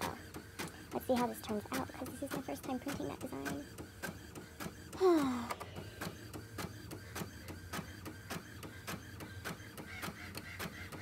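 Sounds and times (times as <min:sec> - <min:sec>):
inkjet printer printing: 0:00.0 - 0:11.0.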